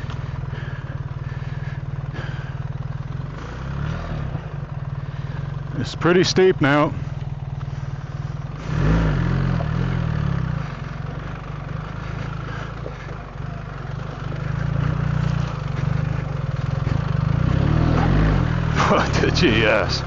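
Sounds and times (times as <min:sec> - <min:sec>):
motorcycle engine climbing: 0:00.0 - 0:20.0.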